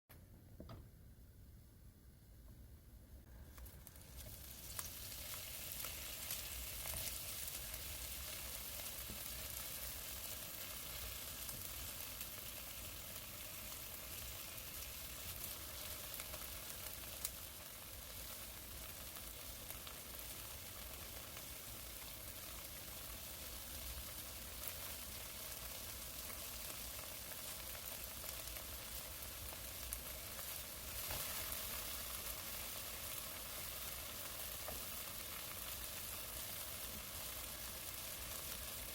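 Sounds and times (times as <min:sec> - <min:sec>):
food sizzling in oil: 0:03.6 - 0:38.9.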